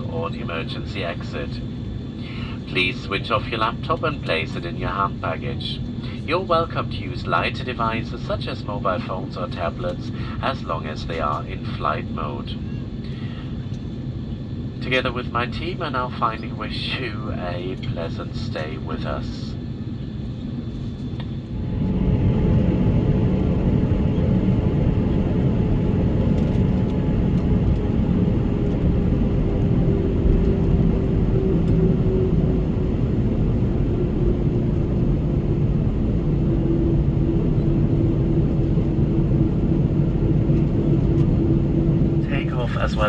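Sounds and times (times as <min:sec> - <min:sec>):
jet airliner engine running: 0:00.0 - 0:43.0.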